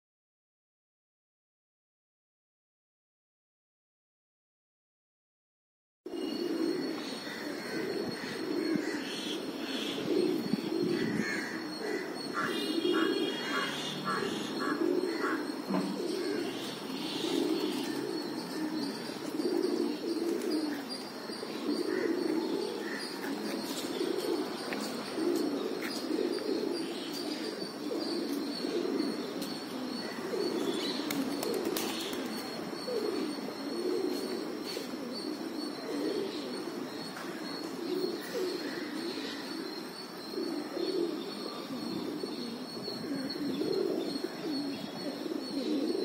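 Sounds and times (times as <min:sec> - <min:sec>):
pigeons cooing: 0:06.1 - 0:46.0.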